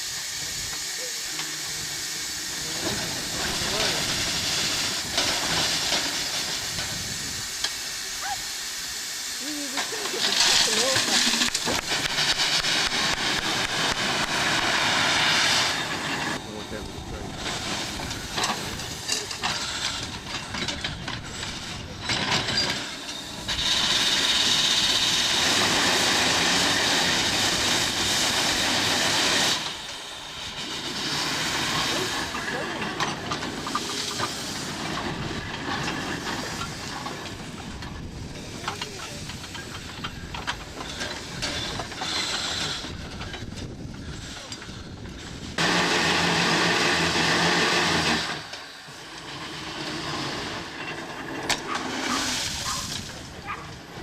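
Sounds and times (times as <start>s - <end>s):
steam shovel hissing steam: 0.0s - 54.0s
clattering machinery: 2.6s - 7.8s, 9.4s - 54.0s.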